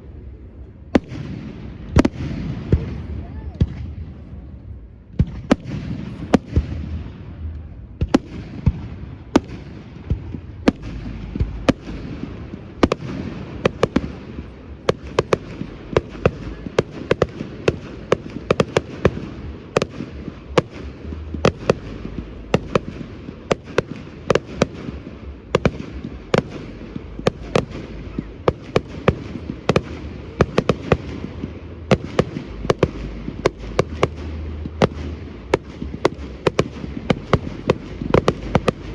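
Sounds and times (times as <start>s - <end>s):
fireworks bangs and crackles: 0.0s - 38.9s
rumble of bursting shells: 5.3s - 38.9s.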